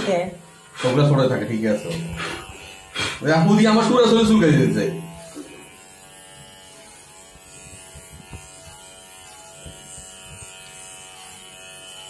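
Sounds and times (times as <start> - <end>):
electric hair trimmer buzzing: 0.0 - 12.0.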